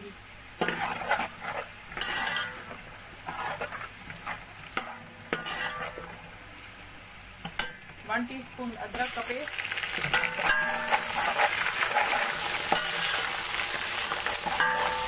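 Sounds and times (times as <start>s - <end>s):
oil sizzling with onions: 0.0s - 15.0s.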